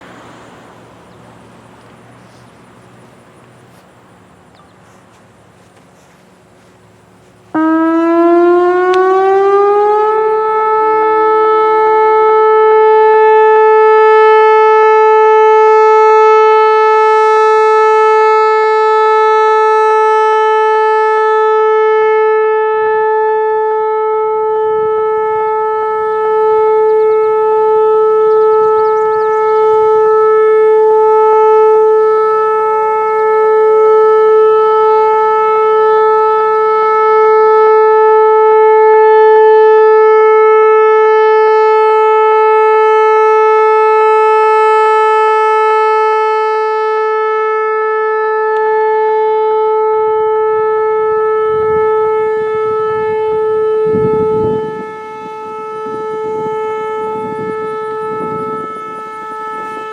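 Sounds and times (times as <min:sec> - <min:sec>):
warning siren rising tone: 0:00.0 - 0:59.9.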